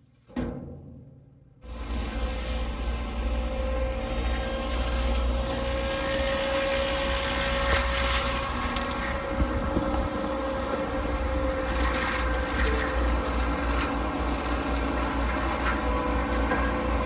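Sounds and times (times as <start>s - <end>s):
excavator engine drone: 1.6s - 17.0s
mulcher high whine: 1.6s - 17.0s.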